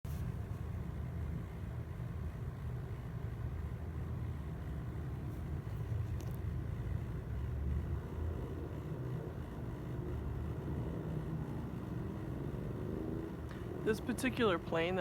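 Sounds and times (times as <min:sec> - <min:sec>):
low steady rumble: 0:00.1 - 0:15.0.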